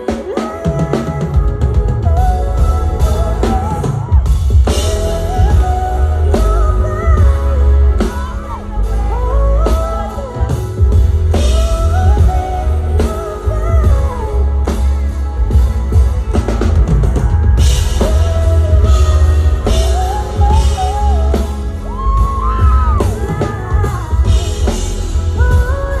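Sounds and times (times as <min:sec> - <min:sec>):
drums: 0:00.0 - 0:26.0
guitar: 0:00.0 - 0:26.0
person singing: 0:00.0 - 0:26.0
heavy bass: 0:00.7 - 0:26.0.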